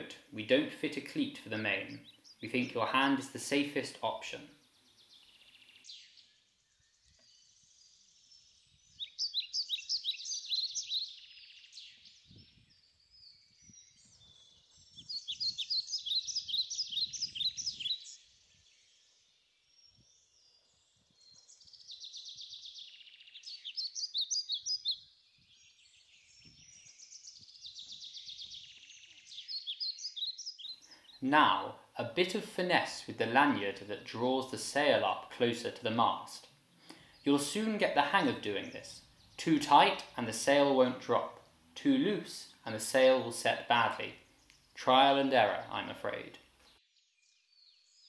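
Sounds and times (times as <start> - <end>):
songbird singing: 0.0 - 48.0.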